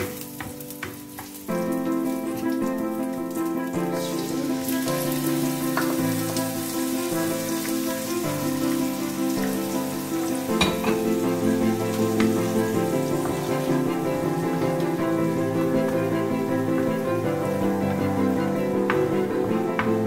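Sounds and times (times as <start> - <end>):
background music chords: 0.0 - 20.0
shrimp sizzling in frying pan: 0.0 - 20.0.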